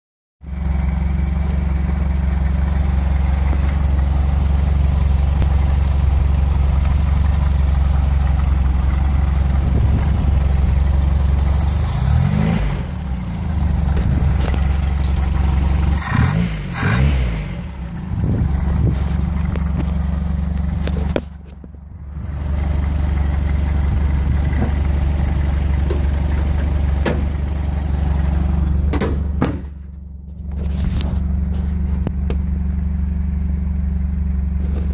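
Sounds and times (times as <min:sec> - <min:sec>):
car engine idling: 0:00.4 - 0:34.9
engine throttle blips: 0:00.5 - 0:34.9.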